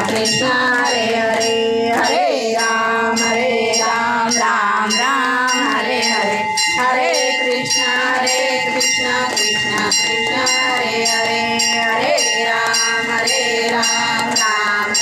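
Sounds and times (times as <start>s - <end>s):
rhythmic metallic jingle: 0.0s - 15.0s
woman singing into a microphone: 0.0s - 15.0s.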